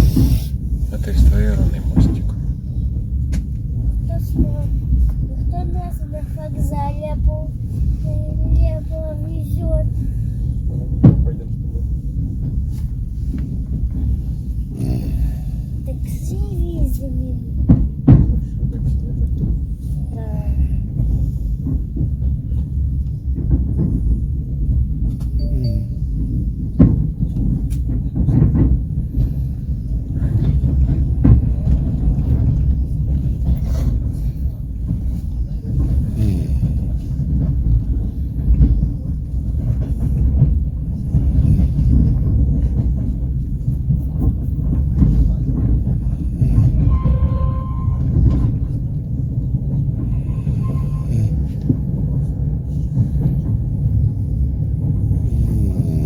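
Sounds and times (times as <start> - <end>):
train rumbling on track: 0.0 - 56.0
wheels clattering over rails: 0.0 - 56.0.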